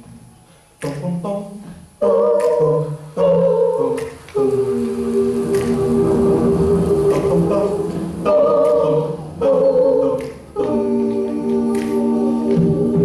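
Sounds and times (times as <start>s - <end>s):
a cappella ensemble singing chords: 0.0s - 13.0s.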